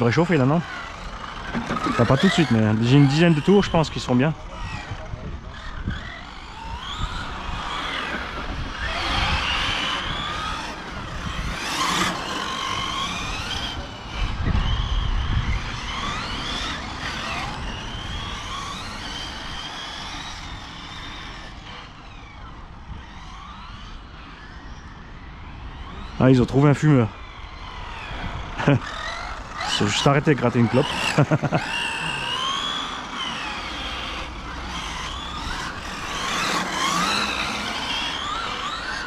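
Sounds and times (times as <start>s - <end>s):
electric rc car motor whining: 0.0s - 39.0s.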